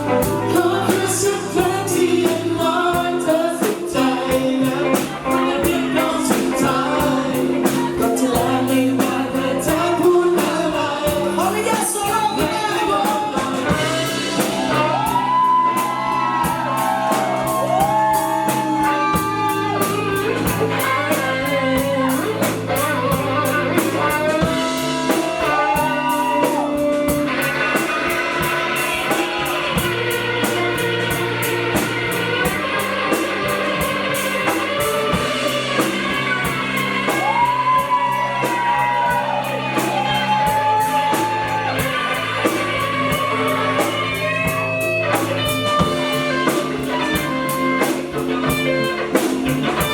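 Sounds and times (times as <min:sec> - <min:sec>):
bass guitar: 0:00.0 - 0:49.9
drum kit beat: 0:00.0 - 0:49.9
electric guitar melody: 0:00.0 - 0:49.9.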